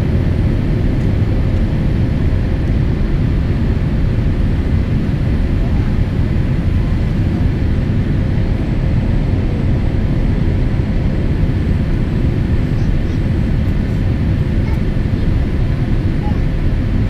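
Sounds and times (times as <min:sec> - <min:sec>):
faint steady whine: 0:00.0 - 0:17.0
jet engine rumble in cabin: 0:00.0 - 0:17.0.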